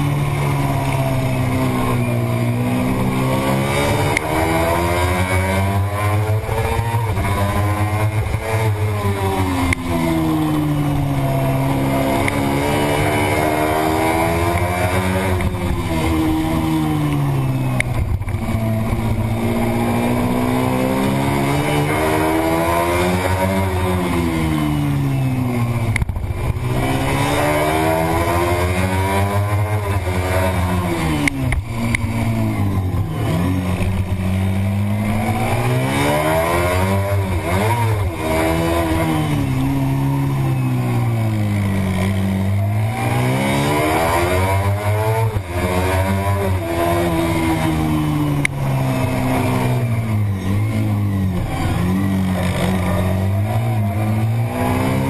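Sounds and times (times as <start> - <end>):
racing motorcycle engine: 0.0 - 55.0.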